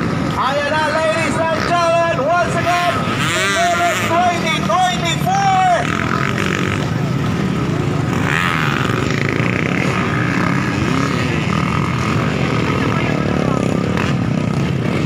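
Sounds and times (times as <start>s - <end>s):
dirt bike engines racing: 0.0s - 15.0s.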